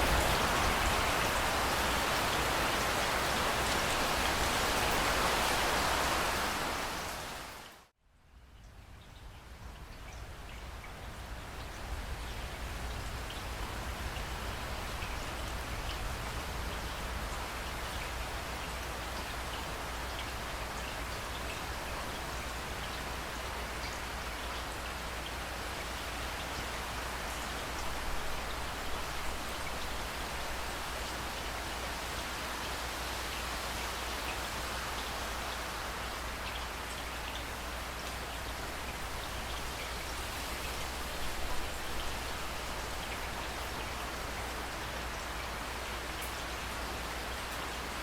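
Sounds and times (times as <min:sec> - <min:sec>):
close raindrops: 0:00.0 - 0:48.0
steady rain: 0:00.0 - 0:48.0.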